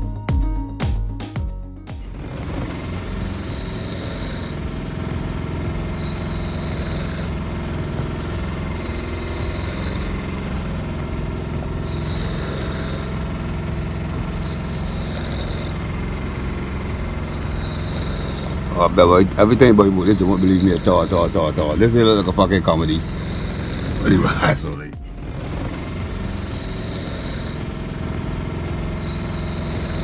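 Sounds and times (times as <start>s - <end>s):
engine running with low rumble: 2.2s - 30.0s.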